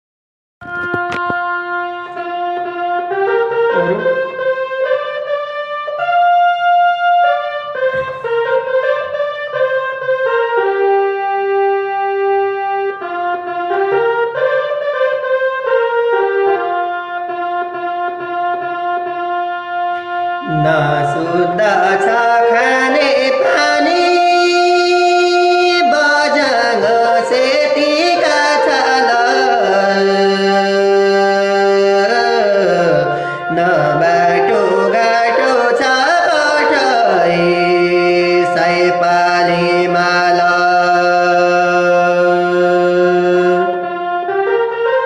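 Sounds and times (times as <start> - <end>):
harmonium playing: 0.6 - 45.0.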